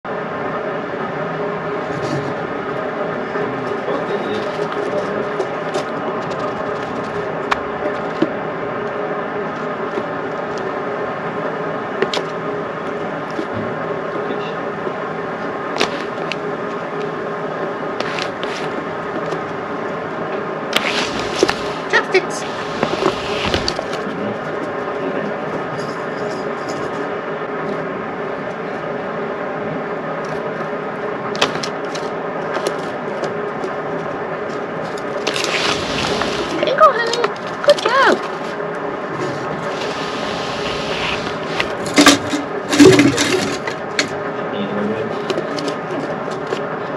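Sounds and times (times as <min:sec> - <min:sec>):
faint constant tones: 0:00.1 - 0:46.9
steady hum and hiss: 0:00.1 - 0:46.9.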